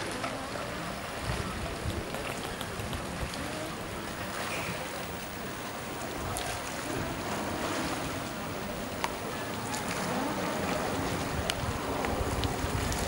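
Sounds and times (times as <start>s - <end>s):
oars washing water: 0.0s - 13.0s
wind rumble on microphone: 0.0s - 13.0s.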